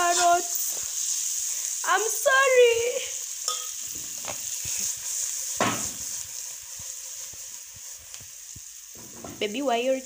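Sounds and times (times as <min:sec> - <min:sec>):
carrots sizzling in a pan: 0:00.0 - 0:10.0.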